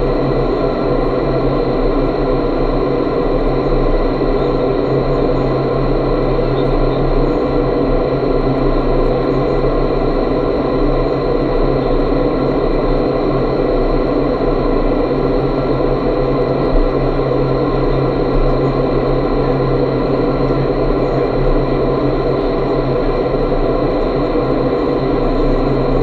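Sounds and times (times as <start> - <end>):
fans humming: 0.0 - 26.0
high-speed airflow rushing: 0.0 - 26.0.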